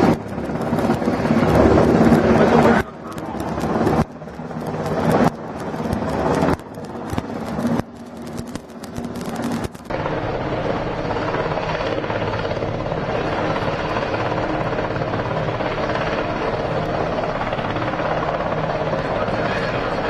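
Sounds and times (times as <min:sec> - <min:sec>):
helicopter rotor and turbine: 0:00.0 - 0:20.0.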